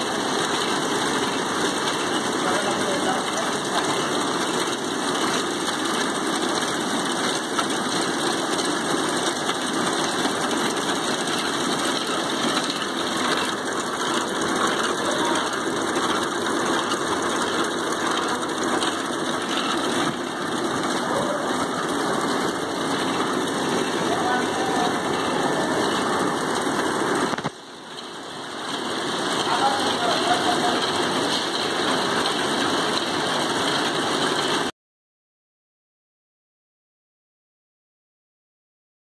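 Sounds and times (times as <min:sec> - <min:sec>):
bobbin winder machine whir: 0:00.0 - 0:34.7.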